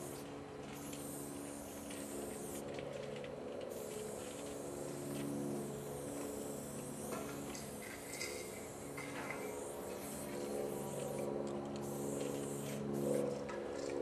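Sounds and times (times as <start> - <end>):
spray paint can hissing: 0.0 - 2.6, 3.7 - 13.3
low mechanical hum: 0.0 - 14.0.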